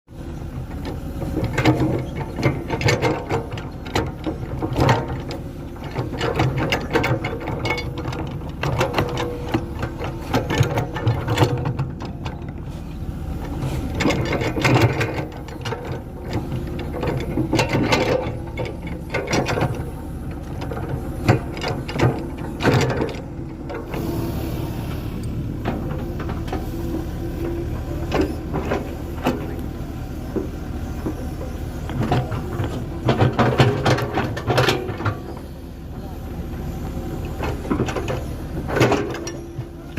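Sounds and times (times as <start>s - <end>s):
excavator engine running: 0.1s - 39.9s.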